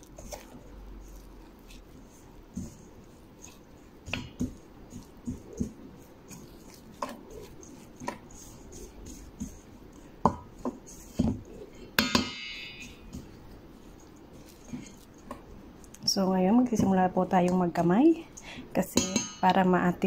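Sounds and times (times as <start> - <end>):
metal spoon stirring in metal bowl: 0.0 - 20.0.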